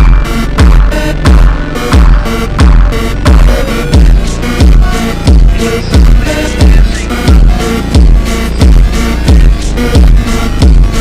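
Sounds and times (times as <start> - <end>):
booming kick drum: 0.0 - 11.0
electronic music: 0.0 - 11.0
sustained synth chords: 0.0 - 11.0.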